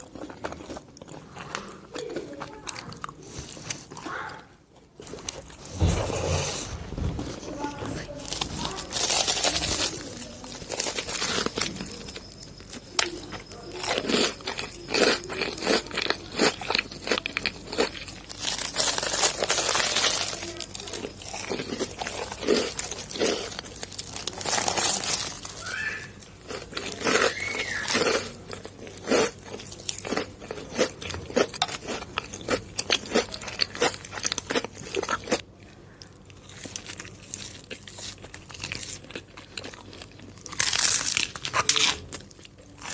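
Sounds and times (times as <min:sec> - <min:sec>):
crunchy food being chewed: 0:00.0 - 0:06.7, 0:07.4 - 0:42.9.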